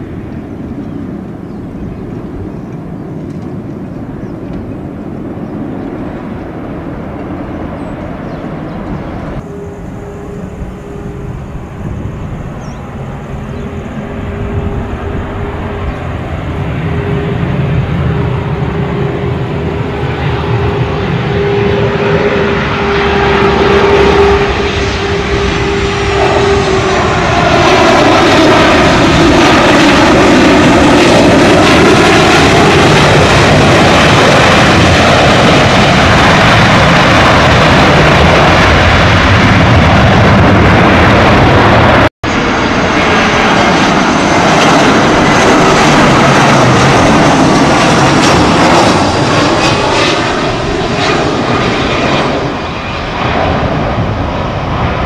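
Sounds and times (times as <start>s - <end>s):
approaching jet engine whine: 0.0s - 55.0s
jet engine rush: 0.0s - 55.0s
jet touching down: 0.0s - 55.0s.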